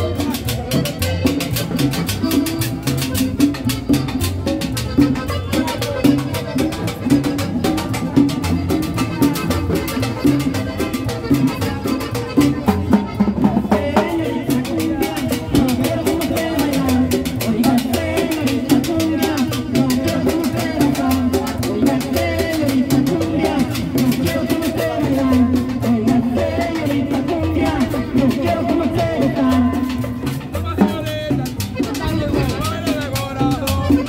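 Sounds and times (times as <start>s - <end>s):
conga drums: 0.0s - 34.0s
upright bass line: 0.0s - 34.0s.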